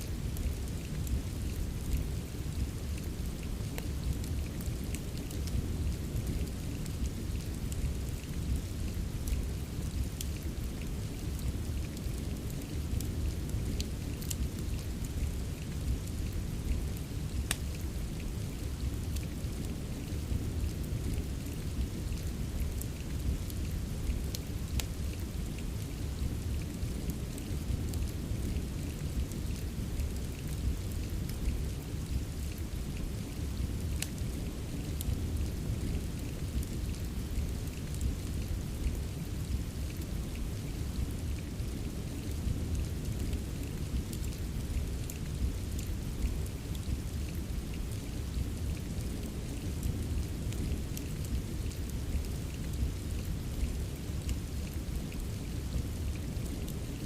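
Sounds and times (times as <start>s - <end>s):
steady rain: 0.0s - 57.0s
wood fire crackling: 0.1s - 57.0s.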